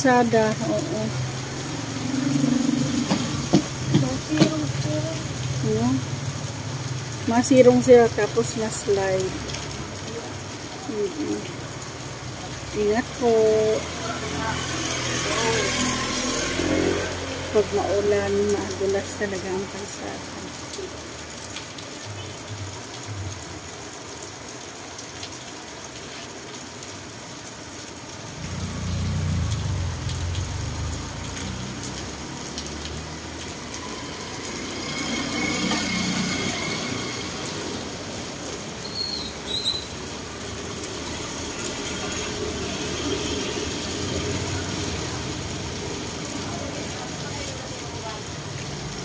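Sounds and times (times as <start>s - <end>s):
steady rain falling: 0.0s - 49.0s
vehicles passing on wet road: 0.0s - 49.0s.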